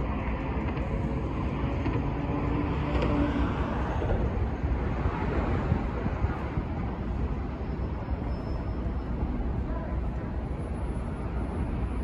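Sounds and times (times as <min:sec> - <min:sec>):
train rumbling on elevated track: 0:00.0 - 0:12.0.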